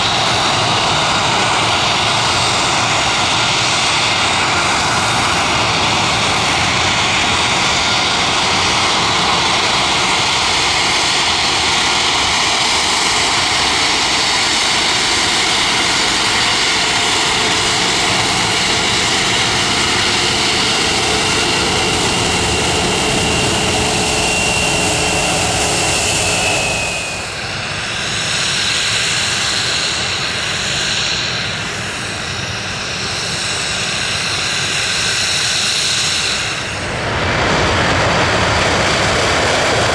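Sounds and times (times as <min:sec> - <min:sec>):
jet engines roaring with whine: 0:00.0 - 0:39.9.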